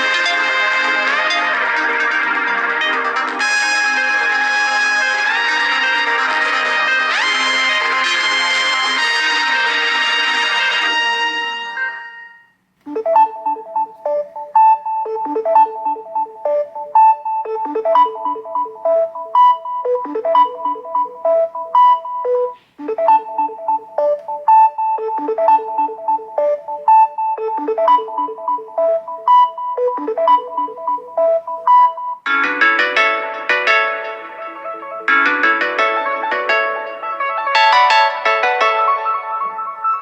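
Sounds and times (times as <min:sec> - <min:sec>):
phone ringtone melody: 0:00.0 - 0:40.0.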